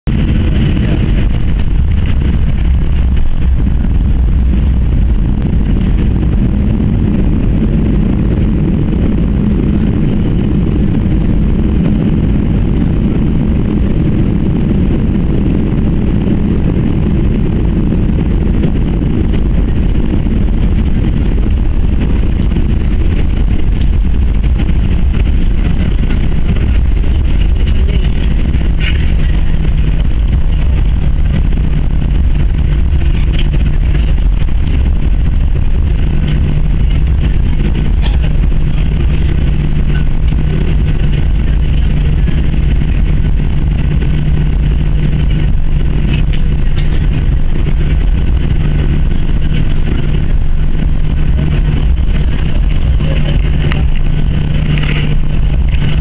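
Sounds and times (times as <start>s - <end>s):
airliner cabin engine rumble: 0.0s - 56.0s.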